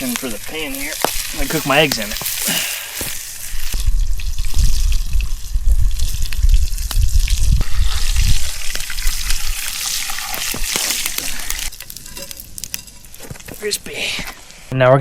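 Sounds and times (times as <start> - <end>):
bacon sizzling in a pan: 0.0 - 14.7.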